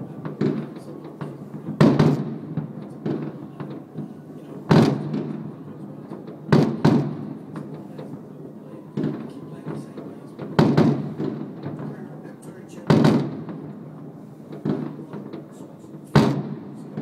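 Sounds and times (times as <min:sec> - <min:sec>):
fireworks bangs: 0:00.0 - 0:17.0
low background noise: 0:00.0 - 0:17.0
faint firework pops: 0:00.2 - 0:04.1, 0:04.7 - 0:05.5, 0:06.1 - 0:08.2, 0:09.0 - 0:17.0.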